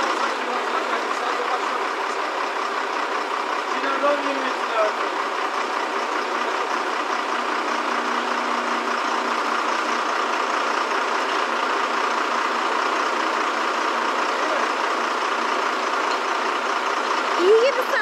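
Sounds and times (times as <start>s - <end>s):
crane engine running: 0.0s - 18.0s.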